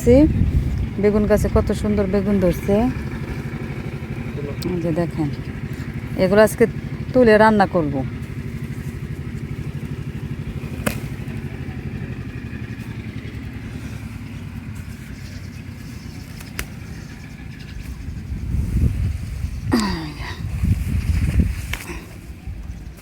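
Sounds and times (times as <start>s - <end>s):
engine running with low pulse: 0.0s - 23.0s.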